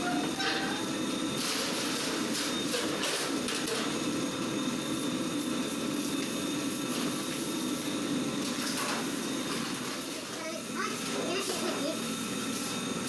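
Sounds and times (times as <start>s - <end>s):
machine mechanical hum: 0.0s - 13.0s.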